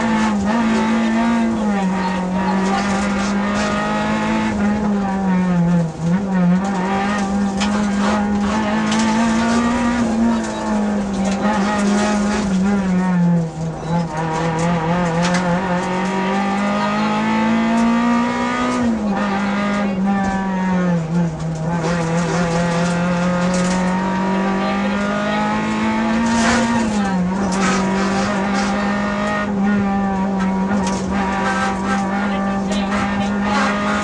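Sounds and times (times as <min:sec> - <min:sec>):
rally car engine revving: 0:00.0 - 0:34.0.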